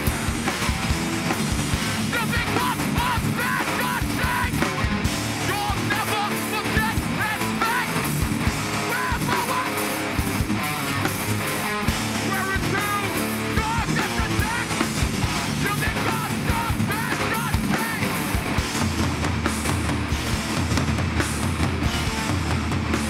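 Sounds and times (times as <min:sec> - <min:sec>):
bass guitar: 0:00.0 - 0:23.0
distorted electric guitars: 0:00.0 - 0:23.0
pounding drum kit: 0:00.0 - 0:23.0.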